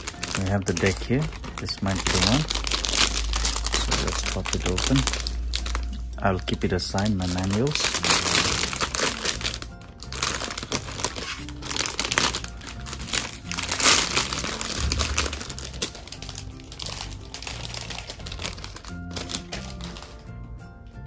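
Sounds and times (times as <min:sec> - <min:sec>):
plastic bag crinkling: 0:00.0 - 0:20.3
background music: 0:00.0 - 0:21.0.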